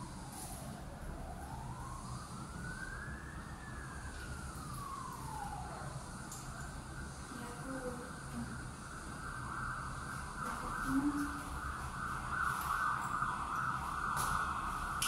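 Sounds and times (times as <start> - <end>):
siren wailing slowly: 0.0 - 15.0.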